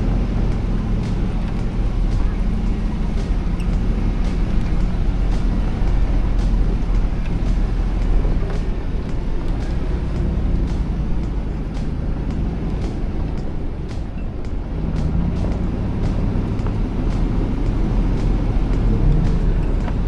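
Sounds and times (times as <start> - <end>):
engine droning: 0.0 - 20.0
tyre and road noise: 0.0 - 20.0.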